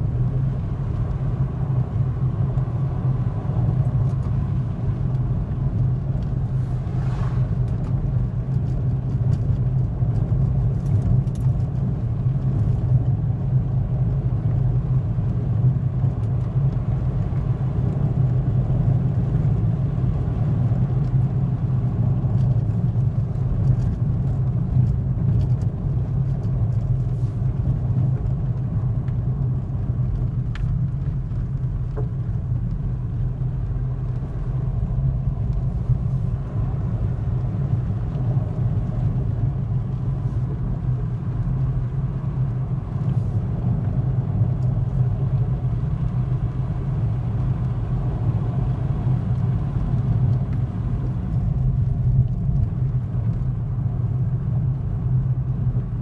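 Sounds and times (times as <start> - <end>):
car cabin engine and road hum: 0.0 - 56.0.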